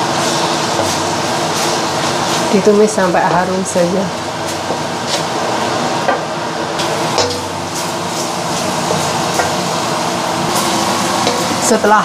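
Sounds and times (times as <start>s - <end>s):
paste sizzling in oil: 0.0s - 6.0s, 6.8s - 12.0s
steady low hum: 0.0s - 12.0s
spatula scraping and knocking pan: 0.1s - 5.3s, 6.0s - 9.9s, 10.5s - 11.8s.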